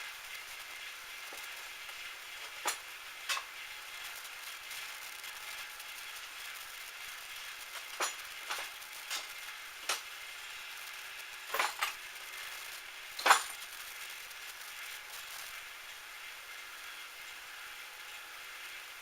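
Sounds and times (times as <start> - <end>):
steady hiss: 0.0 - 17.5.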